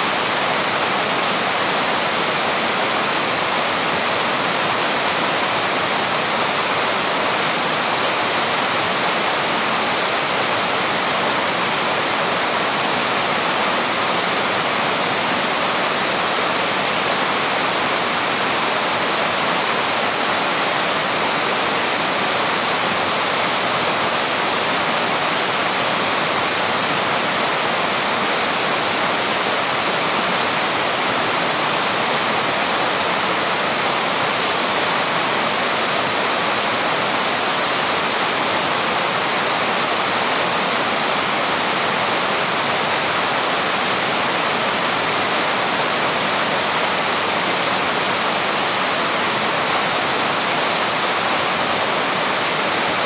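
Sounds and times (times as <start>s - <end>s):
waterfall splashing over rock: 0.0s - 53.0s.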